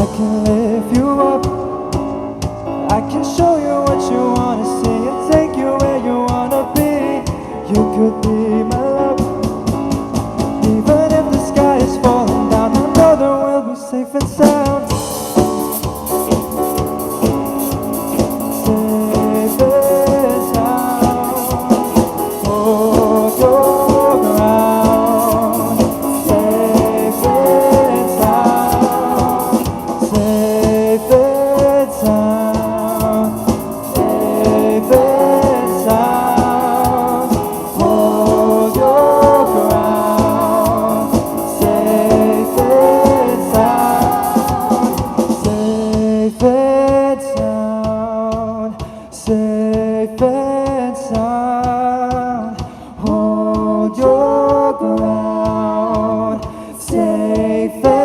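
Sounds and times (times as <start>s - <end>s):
drum kit: 0.0s - 13.4s, 14.2s - 58.0s
band playing with singing: 0.0s - 58.0s.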